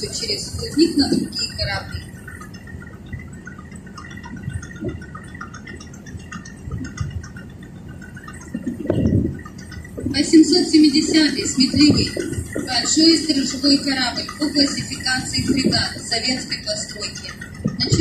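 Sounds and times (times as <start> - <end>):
steady low rumble: 0.0 - 18.0
water splashing along boat hull: 0.0 - 18.0.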